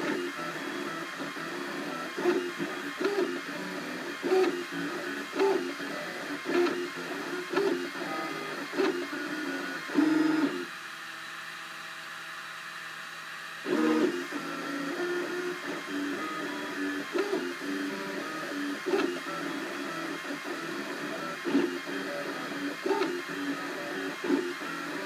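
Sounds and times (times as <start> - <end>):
printer stepper motors whining: 0.0 - 25.0.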